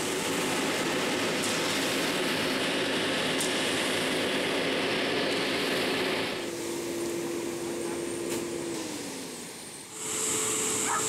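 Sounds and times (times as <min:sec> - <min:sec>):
concrete mixer truck running: 0:00.0 - 0:11.0.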